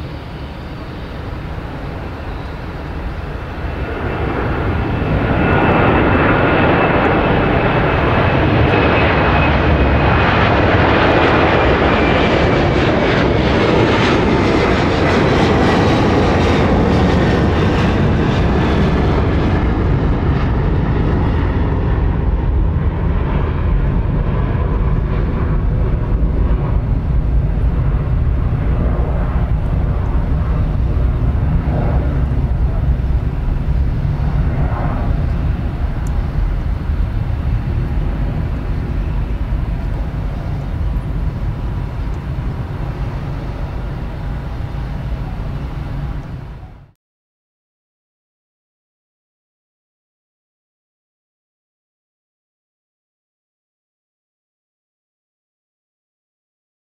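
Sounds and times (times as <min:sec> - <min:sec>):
jet roar with whine: 0:00.0 - 0:47.0.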